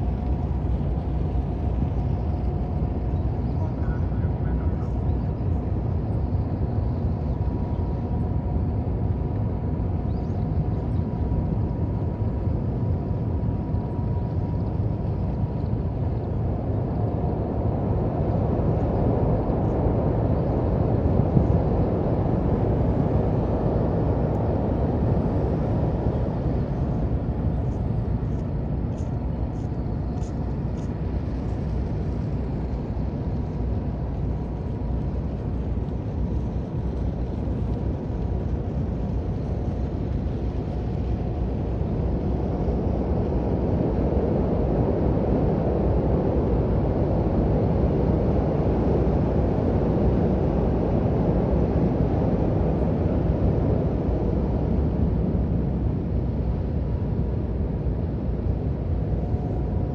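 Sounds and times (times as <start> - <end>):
faint steady whine: 0.0 - 59.9.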